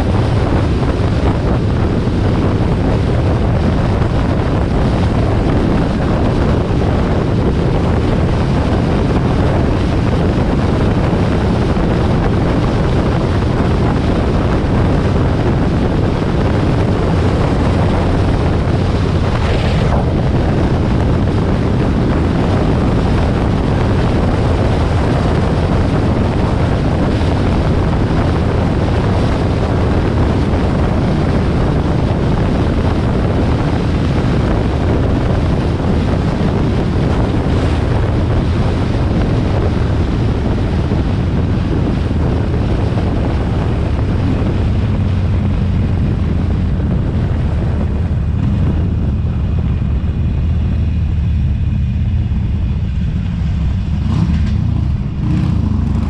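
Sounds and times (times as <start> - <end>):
motorcycle engine rumble: 0.0 - 56.0
wind rushing over microphone: 0.0 - 56.0.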